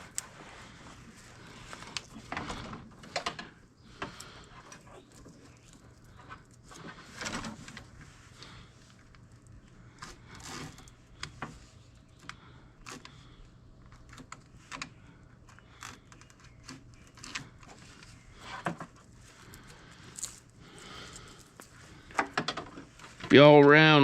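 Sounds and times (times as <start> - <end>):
wire clicking and scraping: 0.0 - 23.3.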